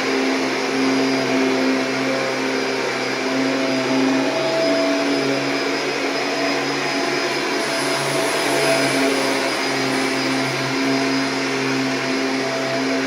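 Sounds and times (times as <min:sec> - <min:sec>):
upright vacuum running: 0:00.0 - 0:13.0.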